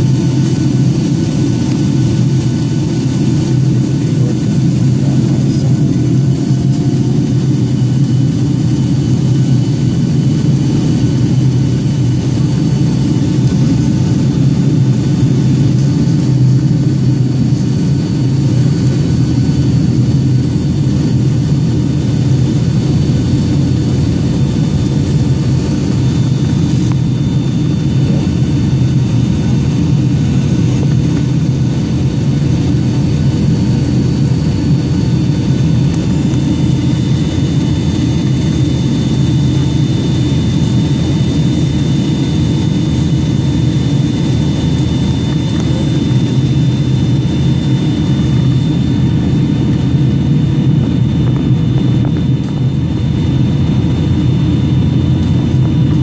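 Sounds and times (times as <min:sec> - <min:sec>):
faint high whine: 0:00.0 - 0:56.0
jet engine rumble: 0:00.0 - 0:56.0.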